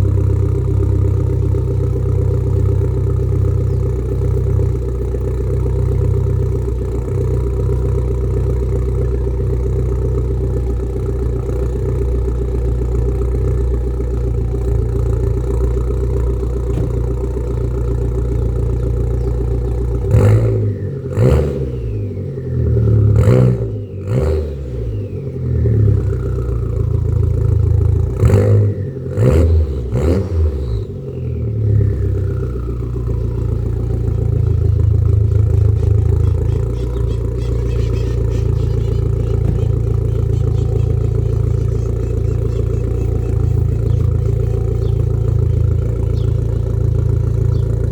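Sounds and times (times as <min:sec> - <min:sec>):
car engine idling and revving: 0:00.0 - 0:47.9.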